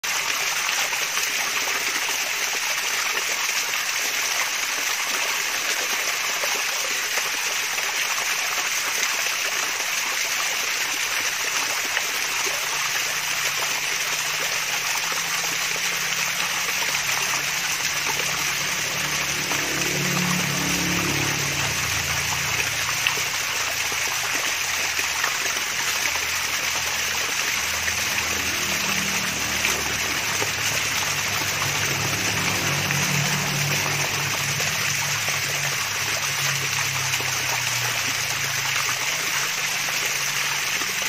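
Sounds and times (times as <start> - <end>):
waterfall splashing and trickling: 0.0 - 41.0.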